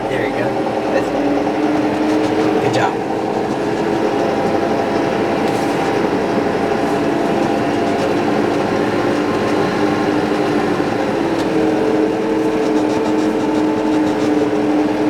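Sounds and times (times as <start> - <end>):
tractor diesel engine droning: 0.0 - 15.0.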